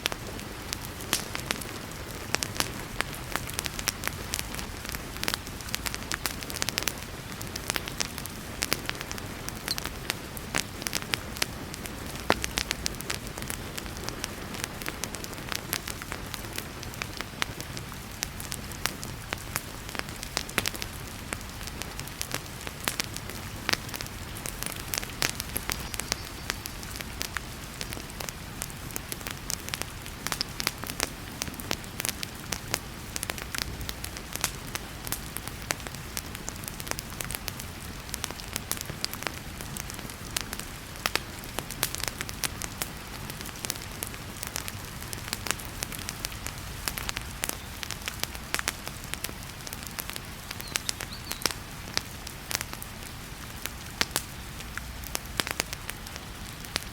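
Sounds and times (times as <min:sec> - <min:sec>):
fire popping: 0:00.0 - 0:56.9
heavy rain: 0:00.0 - 0:56.9
wood fire crackling: 0:00.0 - 0:56.9.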